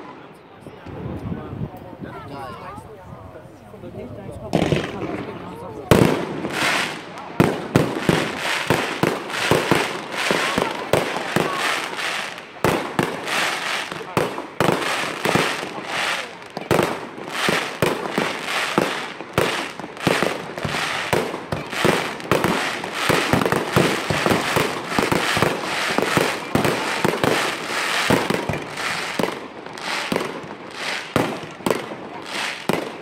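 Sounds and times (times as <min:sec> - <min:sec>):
firework crackling: 0:04.5 - 0:33.0.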